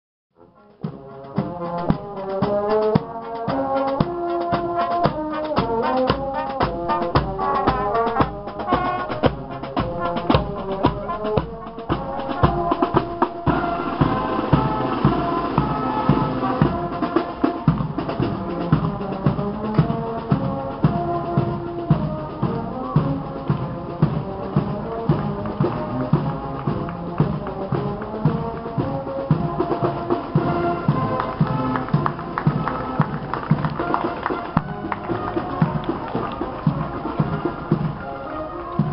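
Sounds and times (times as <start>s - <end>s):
marching brass band: 0.3s - 38.9s
bass drum: 0.8s - 34.0s
snare drums beating: 0.8s - 38.9s.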